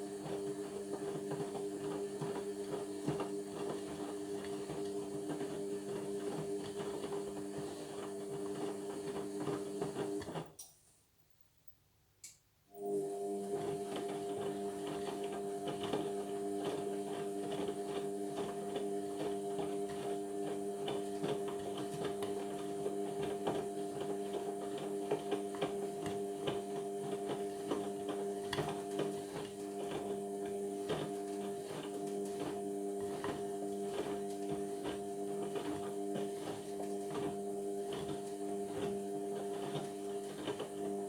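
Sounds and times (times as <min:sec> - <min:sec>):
washing machine humming: 0:00.0 - 0:10.4, 0:12.7 - 0:41.0.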